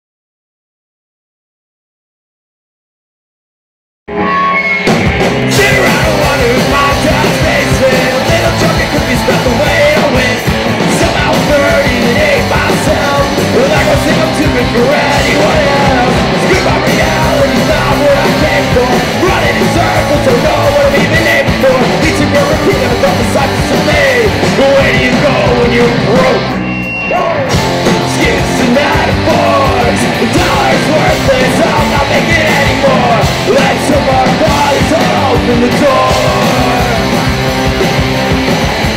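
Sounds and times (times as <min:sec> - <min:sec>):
drum kit: 0:04.1 - 0:38.9
electric guitars: 0:04.1 - 0:38.9
lead vocal singing: 0:05.4 - 0:37.8.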